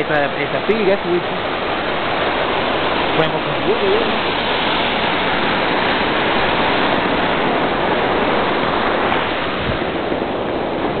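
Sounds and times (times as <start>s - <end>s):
waterfall and rapids rushing: 0.0s - 11.0s.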